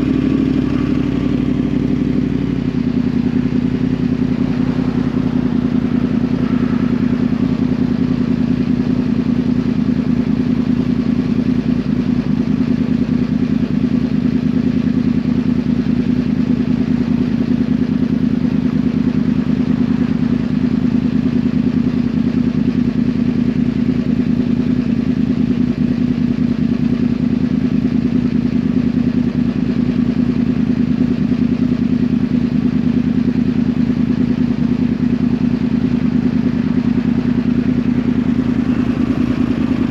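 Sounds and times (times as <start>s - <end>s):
motorcycle engine idling steadily: 0.0s - 39.9s.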